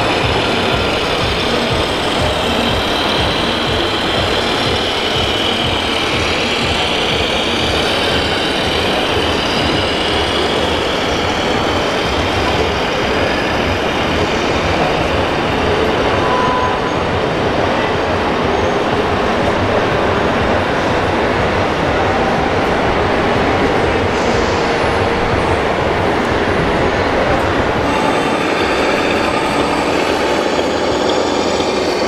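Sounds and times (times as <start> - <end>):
model truck rumbling motor: 0.0 - 32.0.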